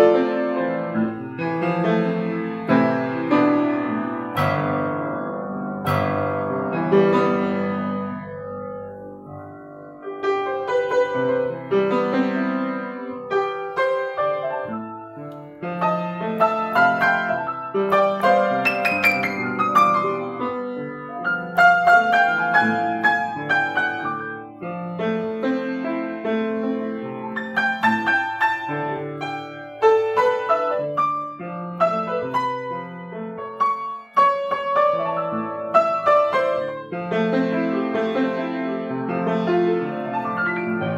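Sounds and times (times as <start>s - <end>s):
solo piano piece: 0.0s - 40.9s.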